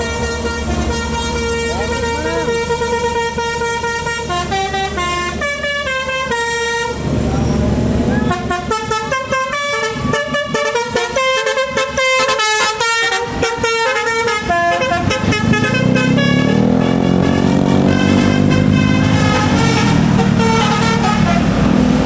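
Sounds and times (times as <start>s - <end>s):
multi-tone air horn tune: 0.0s - 7.1s, 8.1s - 22.0s
bus engine: 0.0s - 22.0s.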